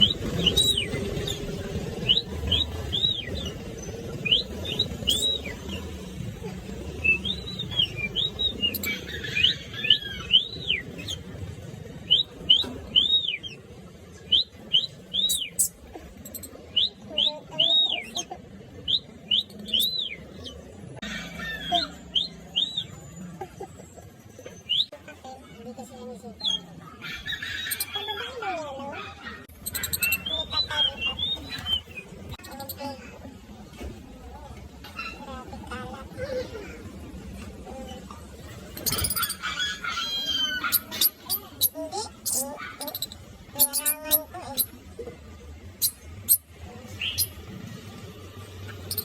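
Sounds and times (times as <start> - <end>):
birds chirping: 0.0 - 25.0, 25.8 - 49.0.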